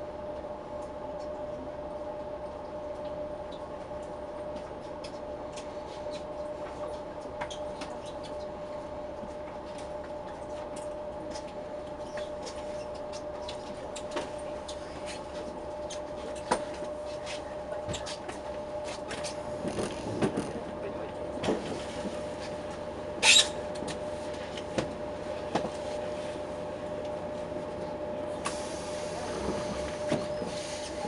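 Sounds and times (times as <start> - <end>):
train interior hum: 0.0 - 31.0.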